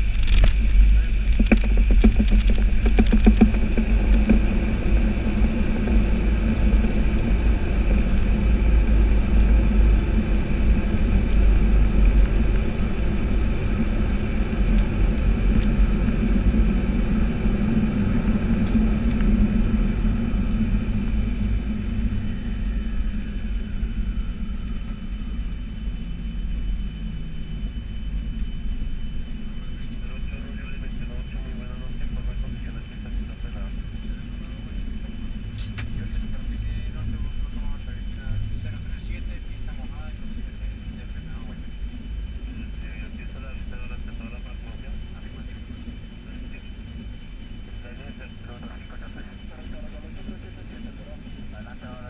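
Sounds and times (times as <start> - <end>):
jet engine whine spooling down: 0.0 - 52.0
rumble of wheels and engines: 0.0 - 52.0.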